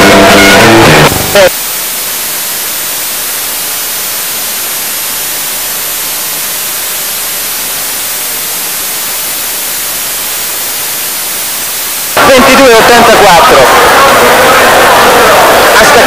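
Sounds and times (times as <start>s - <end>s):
videotape static hiss: 0.0s - 16.0s.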